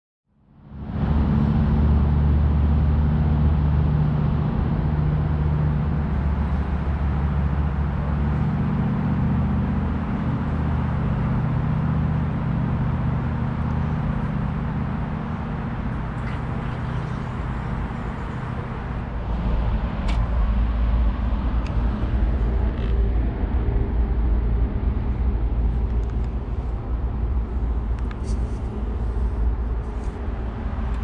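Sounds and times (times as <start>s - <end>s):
engine droning: 0.3s - 31.0s.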